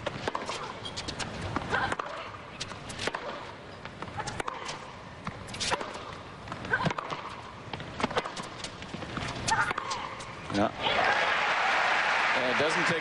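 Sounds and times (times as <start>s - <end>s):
ball bouncing on hard court: 0.0s - 10.6s
racquets striking tennis ball: 0.0s - 10.6s.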